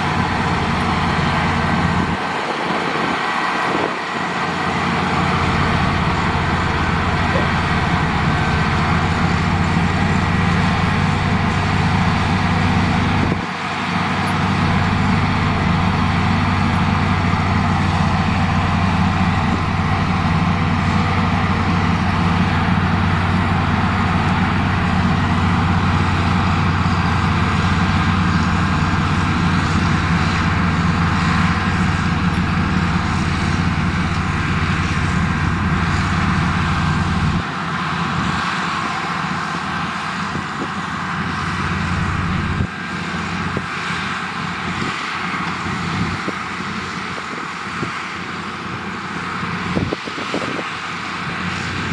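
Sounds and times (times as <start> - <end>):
heavy diesel engine drone: 0.0 - 51.9.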